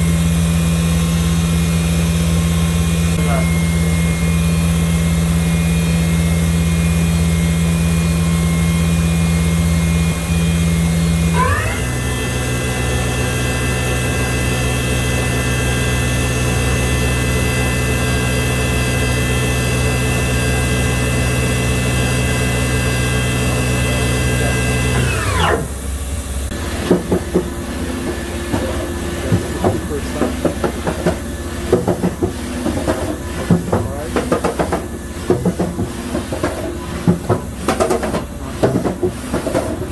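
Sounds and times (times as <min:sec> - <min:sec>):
machine spindle whining: 0:01.7 - 0:39.9.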